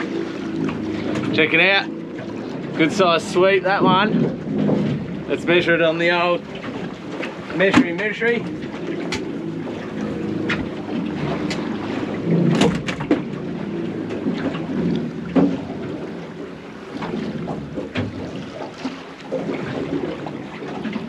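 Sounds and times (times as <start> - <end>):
knocks and thumps on boat: 0.0 - 21.0
low boat rumble: 0.0 - 21.0.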